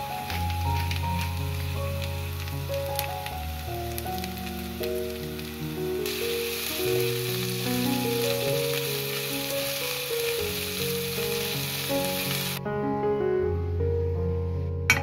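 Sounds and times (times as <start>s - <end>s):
potatoes sizzling in a frying pan: 0.0s - 12.6s
soft piano music: 0.0s - 15.0s.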